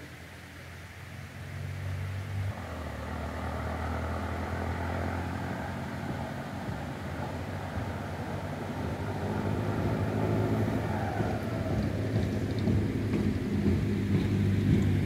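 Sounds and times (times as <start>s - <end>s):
motor droning: 2.5s - 15.0s.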